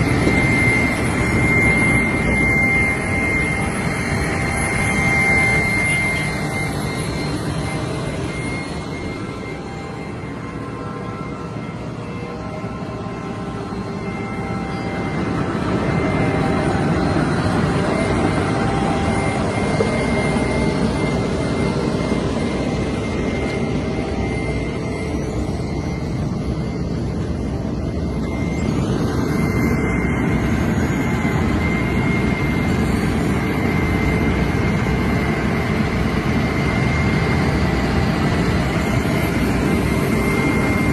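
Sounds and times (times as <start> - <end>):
high machine whine: 0.0 - 40.9
milling machine rumble: 0.0 - 40.9.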